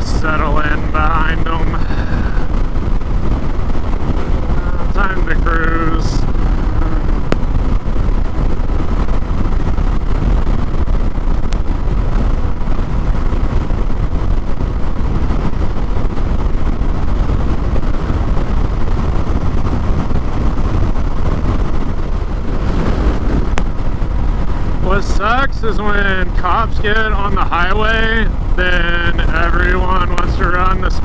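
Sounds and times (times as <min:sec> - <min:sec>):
motorcycle engine drone: 0:00.0 - 0:31.0
wind and road noise: 0:00.0 - 0:31.0.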